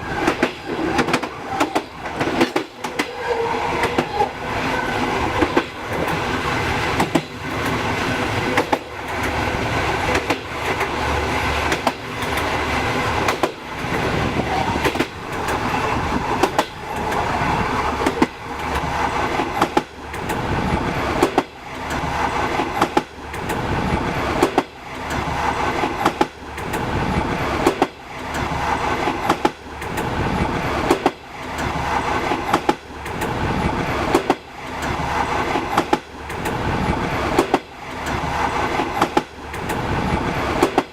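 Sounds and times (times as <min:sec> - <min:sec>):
train rolling rumble: 0:00.0 - 0:40.9
train wheels clattering over rails: 0:00.0 - 0:40.9.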